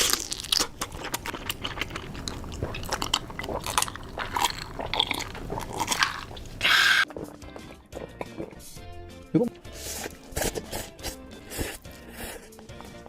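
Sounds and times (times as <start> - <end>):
crunching and chewing crisp food: 0.0 - 8.8, 9.7 - 13.0.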